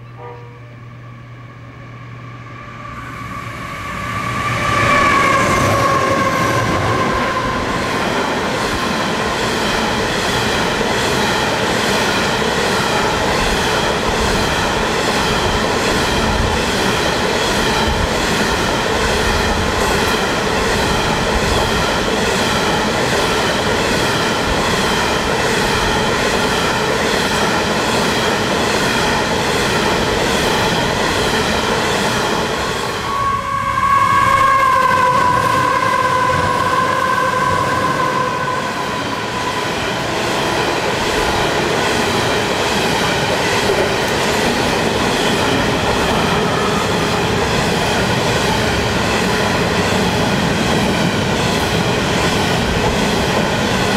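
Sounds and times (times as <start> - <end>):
diesel locomotive engine: 0.0 - 53.9
wheels whining on rails: 2.0 - 53.9
train wagons rumbling: 4.1 - 53.9.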